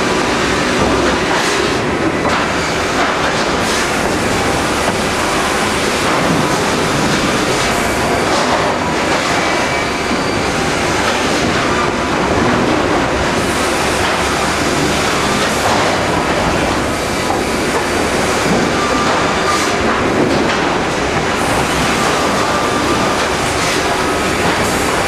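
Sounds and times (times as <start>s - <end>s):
sawmill machinery running: 0.0s - 25.0s.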